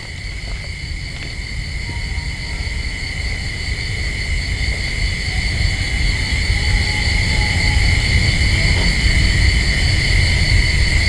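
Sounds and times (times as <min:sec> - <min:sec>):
crickets trilling: 0:00.0 - 0:11.0
low rumbling drone: 0:00.0 - 0:11.0.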